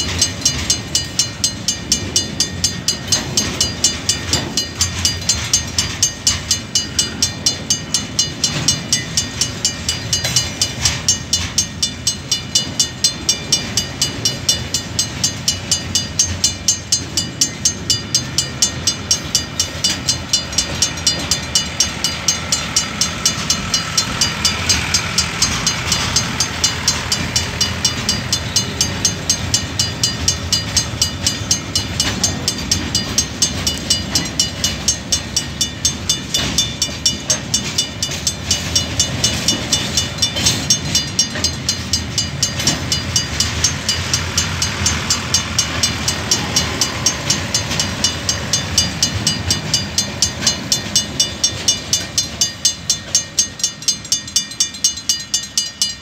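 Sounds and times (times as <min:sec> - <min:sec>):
freight train rumbling on rails: 0:00.0 - 0:56.0
level crossing bell ringing: 0:00.0 - 0:56.0.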